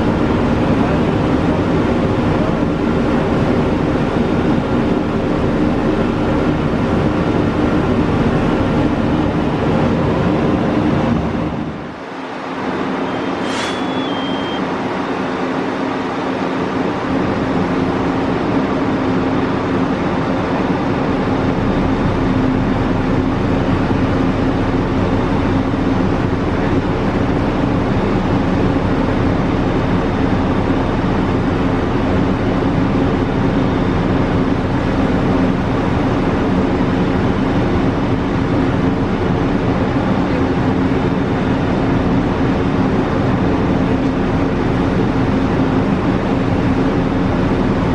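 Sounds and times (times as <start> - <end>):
large engine droning: 0.0 - 47.9.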